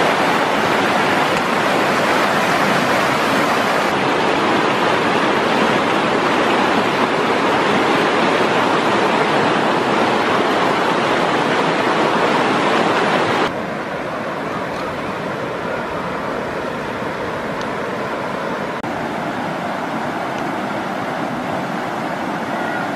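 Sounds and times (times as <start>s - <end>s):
river water rushing over rocks: 0.0s - 22.9s.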